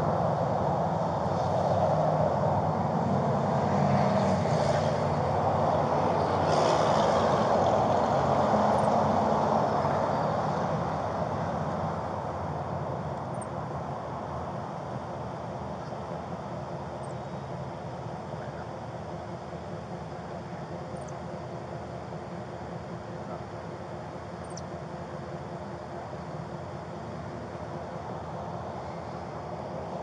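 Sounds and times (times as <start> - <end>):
low engine hum: 0.0 - 30.0
road traffic rushing: 0.0 - 30.0.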